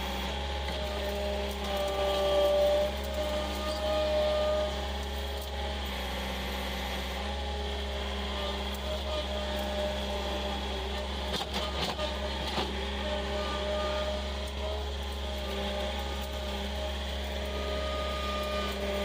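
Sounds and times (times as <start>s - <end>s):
loader engine running: 0.0s - 19.0s.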